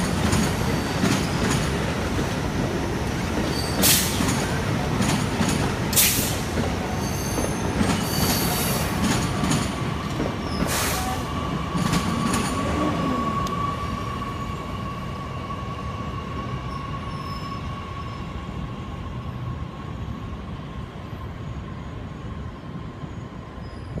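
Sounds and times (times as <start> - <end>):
train wheels squealing: 0.0 - 1.8, 3.4 - 24.0
train running noise: 0.0 - 24.0.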